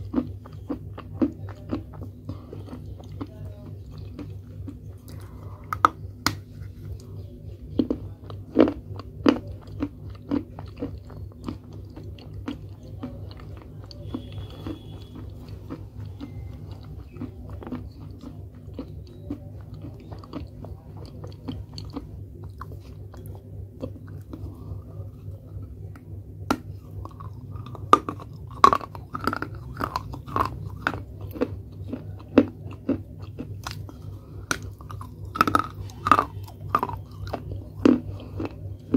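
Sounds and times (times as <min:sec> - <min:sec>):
person crunching baked clay: 0:00.0 - 0:38.9.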